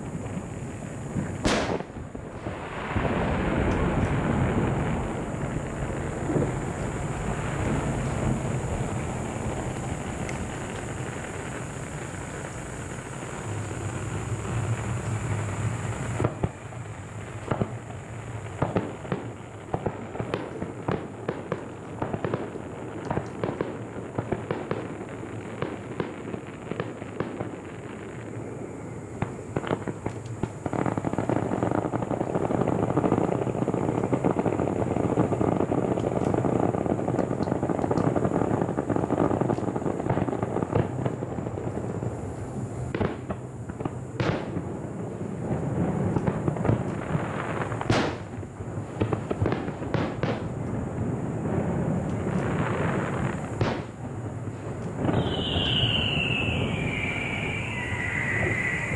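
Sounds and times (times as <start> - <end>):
fireworks bangs and pops: 0.0 - 58.9
fireworks crackling: 0.0 - 58.9.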